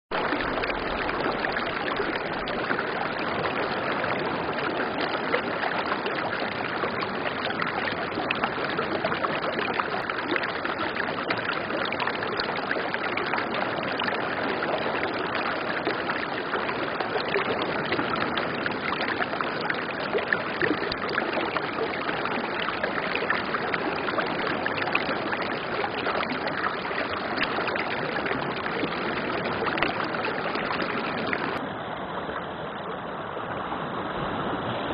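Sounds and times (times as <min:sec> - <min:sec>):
stream flowing over stones: 0:00.1 - 0:34.9.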